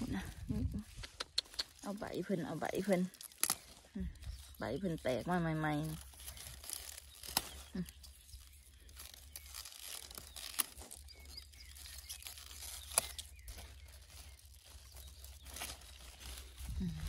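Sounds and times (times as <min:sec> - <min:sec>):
leaves rustling and crackling: 0:00.0 - 0:17.0
leaves snapping: 0:00.8 - 0:17.0.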